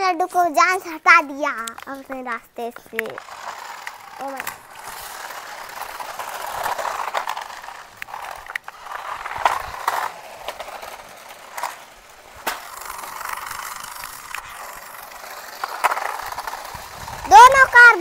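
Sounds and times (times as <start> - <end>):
toy car motors whirring: 0.3 - 18.0.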